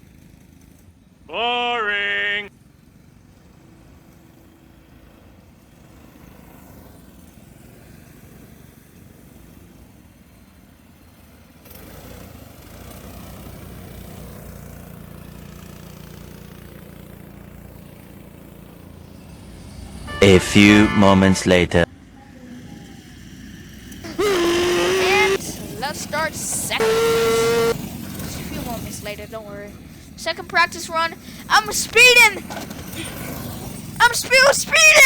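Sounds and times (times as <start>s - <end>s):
distant go-kart engines: 0.0s - 35.0s.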